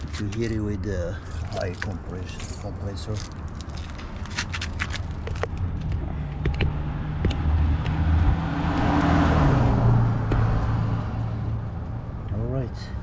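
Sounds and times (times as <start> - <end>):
motor vehicle passing: 1.0 - 13.0.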